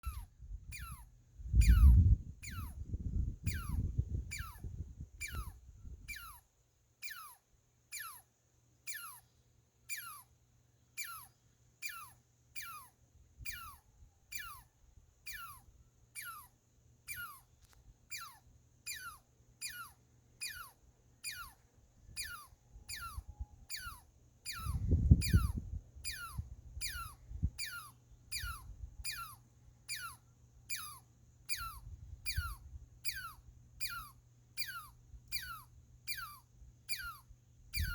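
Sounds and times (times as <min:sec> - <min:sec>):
squirrel chirping: 0:00.0 - 0:37.9.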